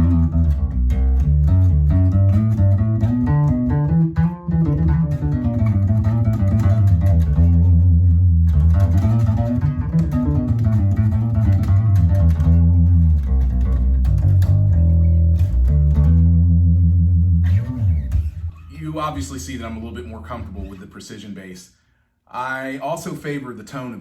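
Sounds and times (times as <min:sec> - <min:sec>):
electric bass guitar notes: 0:00.0 - 0:20.8.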